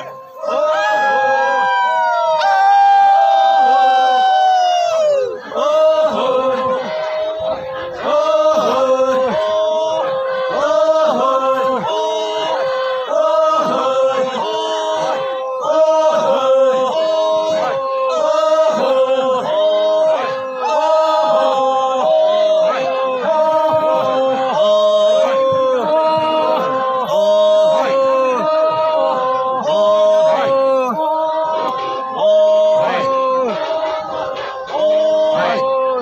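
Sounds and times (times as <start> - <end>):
men chanting in unison: 0.0 - 36.0.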